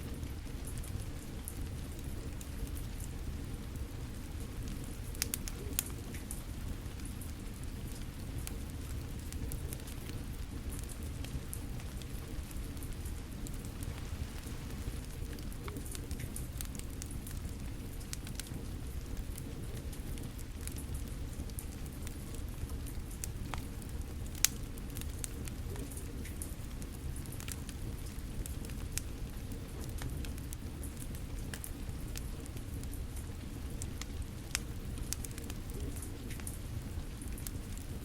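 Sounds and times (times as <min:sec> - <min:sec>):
fire crackling and popping: 0:00.0 - 0:38.0
steady rain: 0:00.0 - 0:38.0.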